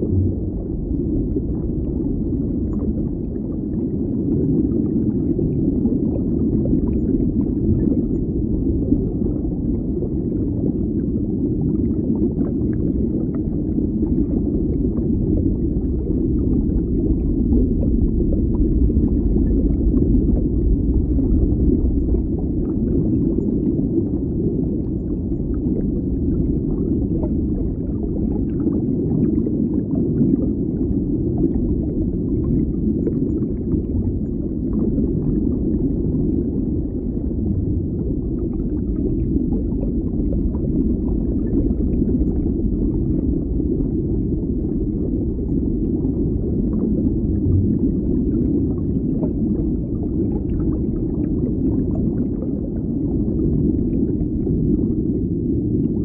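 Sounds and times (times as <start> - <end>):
underwater bubbling: 0.0 - 56.0.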